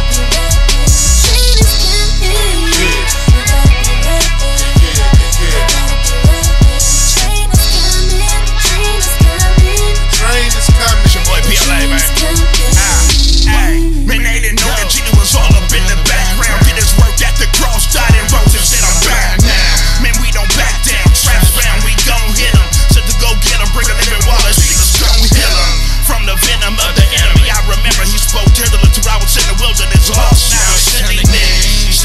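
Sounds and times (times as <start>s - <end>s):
hip hop music with heavy bass: 0.0s - 32.0s.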